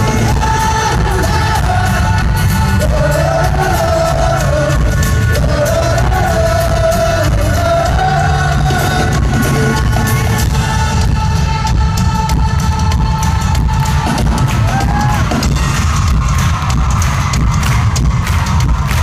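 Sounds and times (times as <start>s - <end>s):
person singing lead vocal: 0.0s - 15.8s
live rock band: 0.0s - 19.0s.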